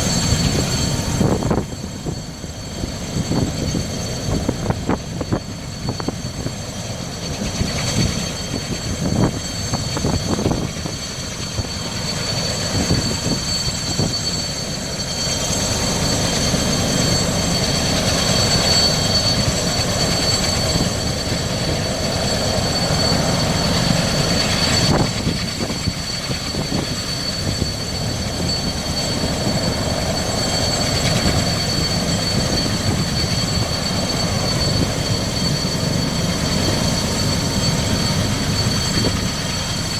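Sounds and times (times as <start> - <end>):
helicopter engines and rotor: 0.0 - 39.9.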